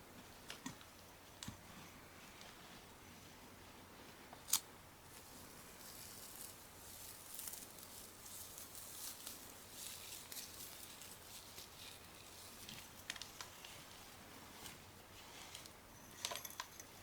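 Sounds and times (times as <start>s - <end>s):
crinkly rustling: 1.6s - 17.0s.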